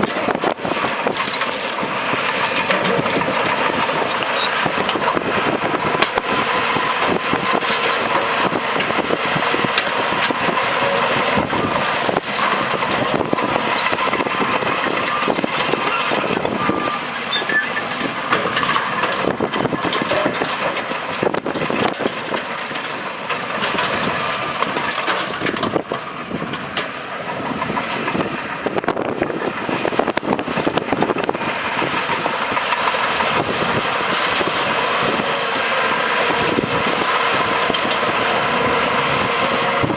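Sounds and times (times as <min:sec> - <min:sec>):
diesel engine running: 0:00.0 - 0:39.9
machinery rattles and clanks: 0:00.0 - 0:39.9.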